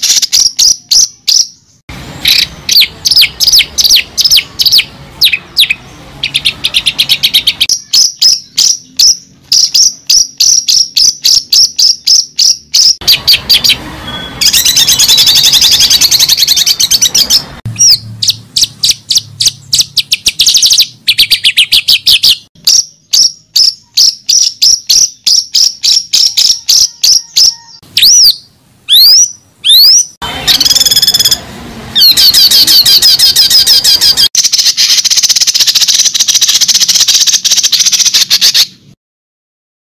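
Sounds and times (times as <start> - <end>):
bird chirping in fast runs: 0.0 - 31.4, 32.0 - 38.9
bird whistled calls: 2.2 - 31.4, 32.0 - 38.8.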